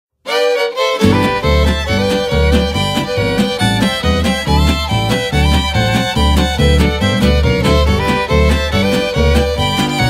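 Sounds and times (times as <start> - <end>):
fiddles playing polka: 0.3 - 10.0
bass and rhythm accompaniment: 1.0 - 10.0.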